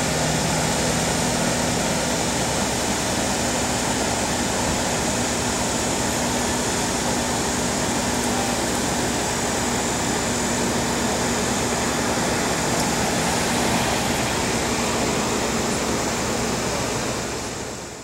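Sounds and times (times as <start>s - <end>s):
car engine humming: 0.0s - 18.0s
outdoor background roar: 0.0s - 18.0s.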